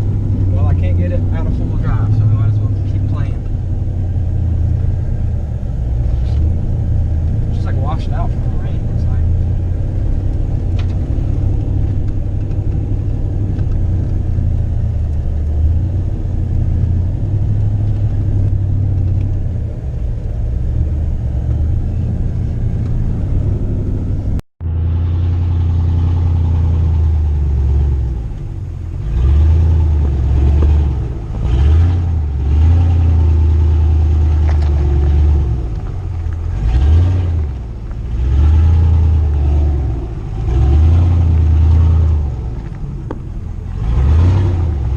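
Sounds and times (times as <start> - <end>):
truck engine driving: 0.0 - 44.9.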